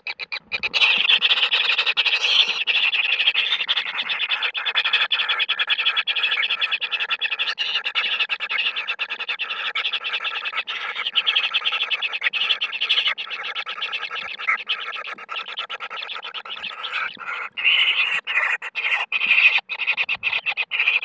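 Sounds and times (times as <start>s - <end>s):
rapid rasping animal calls: 0.0s - 21.0s.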